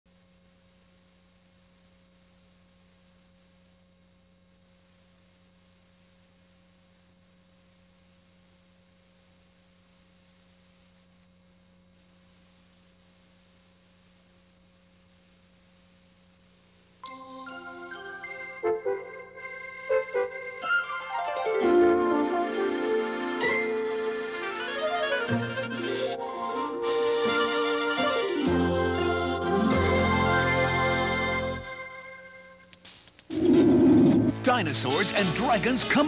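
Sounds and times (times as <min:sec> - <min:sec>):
faint steady hum: 0:00.1 - 0:36.0
tape hiss: 0:00.1 - 0:36.0.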